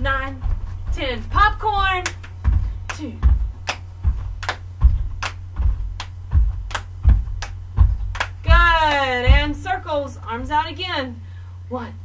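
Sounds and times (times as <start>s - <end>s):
bare feet thudding on carpet: 0.0s - 10.8s
steady low hum: 0.0s - 12.0s.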